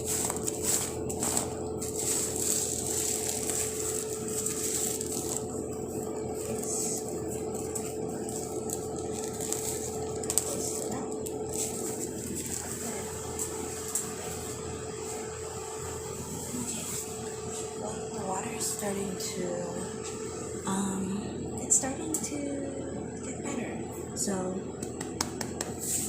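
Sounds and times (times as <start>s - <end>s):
mechanical hum with whine: 0.0s - 26.0s.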